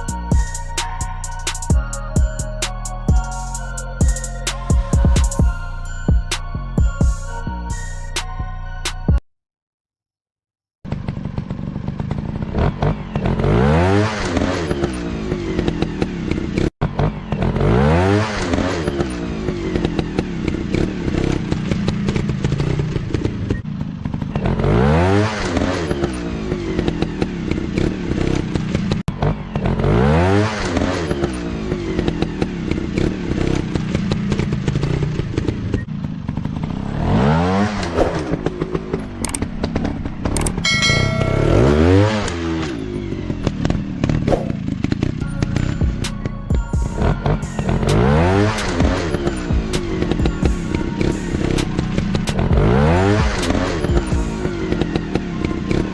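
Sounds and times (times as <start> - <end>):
motorcycle engines revving: 10.9 - 55.9.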